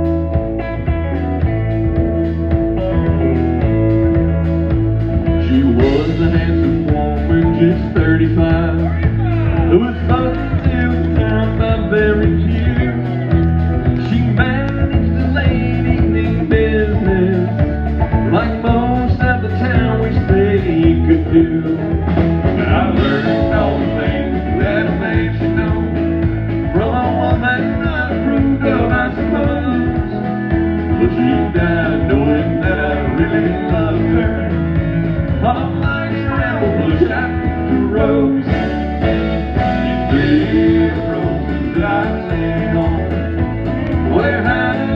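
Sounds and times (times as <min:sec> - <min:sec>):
country band playing: 0:00.0 - 0:44.9
guitar: 0:00.0 - 0:44.9
person singing: 0:00.0 - 0:44.9.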